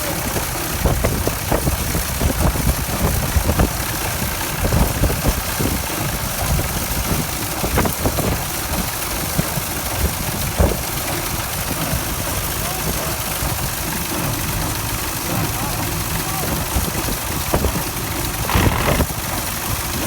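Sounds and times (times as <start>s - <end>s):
tractor engine rumble: 0.0s - 20.0s.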